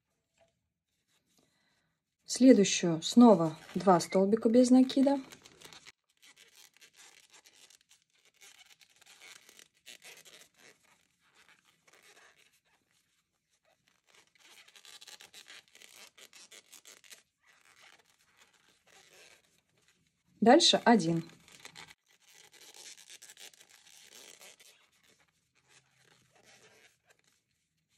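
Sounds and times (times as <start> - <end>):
crochet hook rustling and scraping: 2.4 - 27.6.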